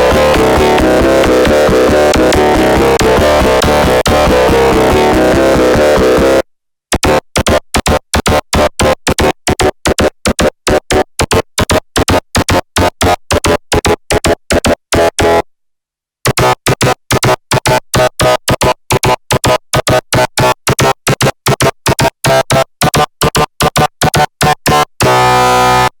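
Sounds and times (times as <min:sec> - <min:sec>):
synthesizer staccato bass notes: 0:00.0 - 0:15.5, 0:16.2 - 0:25.9.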